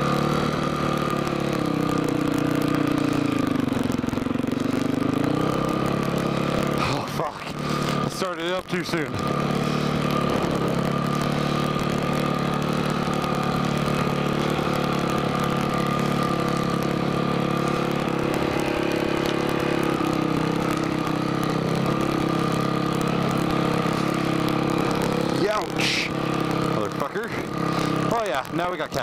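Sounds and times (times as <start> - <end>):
off-road engine running at low revs: 0.0 - 29.0.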